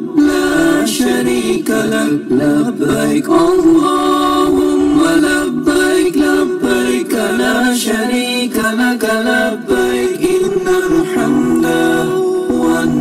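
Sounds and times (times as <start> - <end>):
unaccompanied chant-like singing: 0.0 - 13.0.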